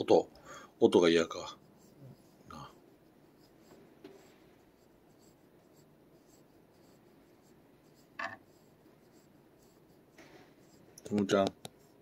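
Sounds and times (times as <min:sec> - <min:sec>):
brush scratching cat fur: 0:01.0 - 0:12.0.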